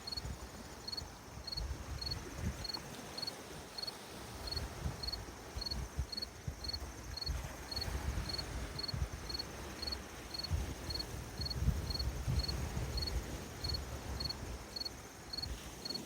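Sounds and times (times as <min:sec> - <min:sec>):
cricket chirping: 0:00.0 - 0:16.0
faint insect buzz: 0:00.0 - 0:16.0
low rumble of lakeshore: 0:00.0 - 0:16.0.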